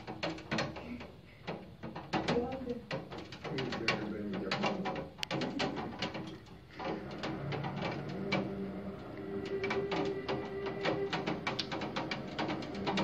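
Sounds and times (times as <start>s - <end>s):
hail and rain on hard surface: 0.0s - 13.0s.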